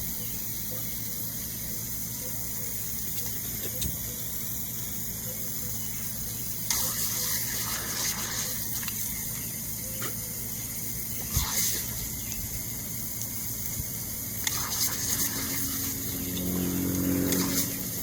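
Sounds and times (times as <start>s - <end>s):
lawn sprinkler spraying water: 0.0s - 18.0s.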